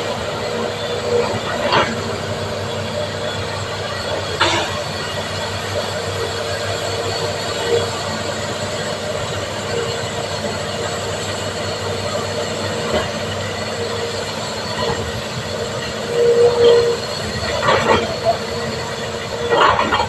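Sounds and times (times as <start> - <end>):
excavator engine running: 0.0 - 20.0
metallic squeal: 0.0 - 20.0.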